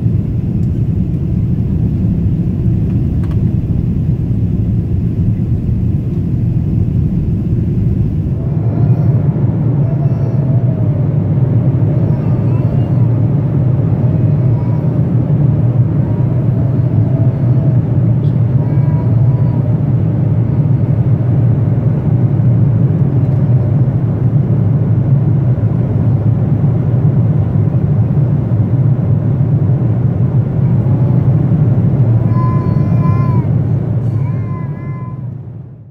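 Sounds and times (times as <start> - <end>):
airplane cabin rumble: 0.0 - 35.9.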